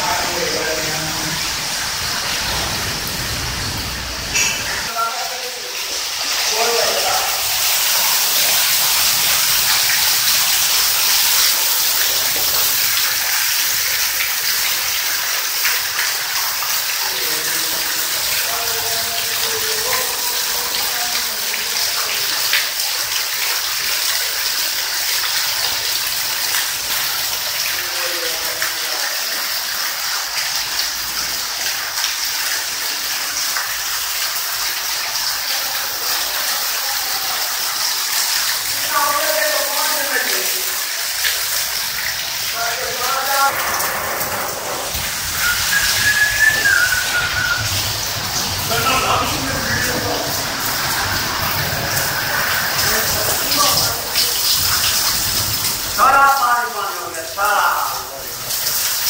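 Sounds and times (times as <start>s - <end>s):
heavy rain splashing on concrete: 0.0s - 59.0s.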